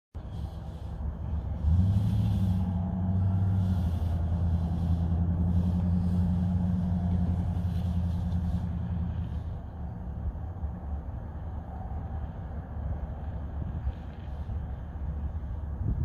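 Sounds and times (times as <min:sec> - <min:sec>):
engine drone: 0:00.2 - 0:16.0.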